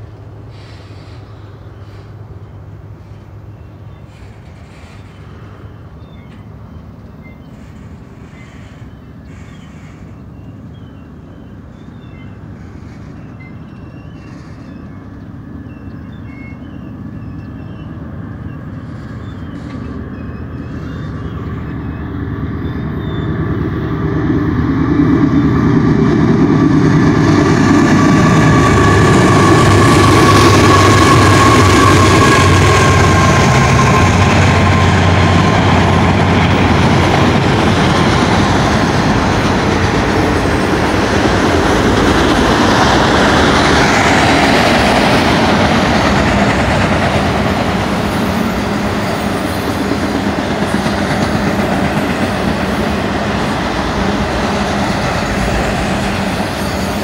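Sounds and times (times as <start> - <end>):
diesel locomotive engine hum: 0.0 - 57.0
freight train passing: 0.0 - 57.0
rolling wheel and rail noise: 0.0 - 57.0.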